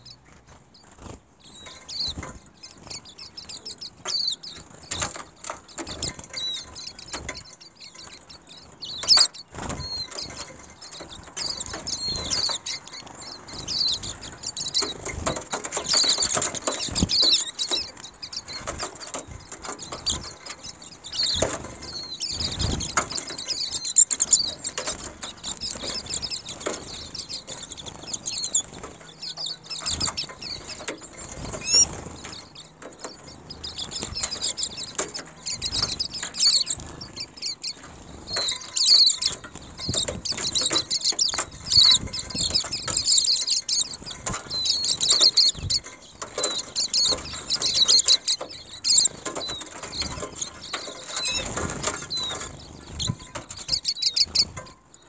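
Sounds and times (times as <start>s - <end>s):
birds twittering chirps: 0.0s - 55.0s
fluttering wings: 0.3s - 54.8s.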